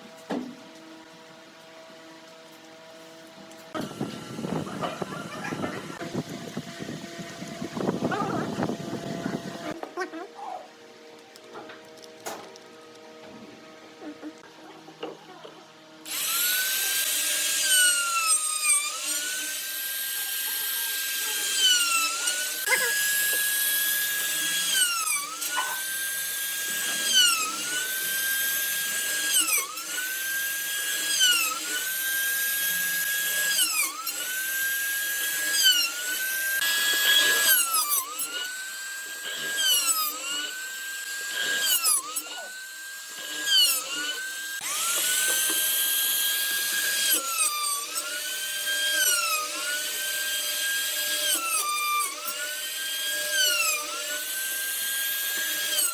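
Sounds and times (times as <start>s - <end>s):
power tool whining on wood: 0.0s - 55.9s.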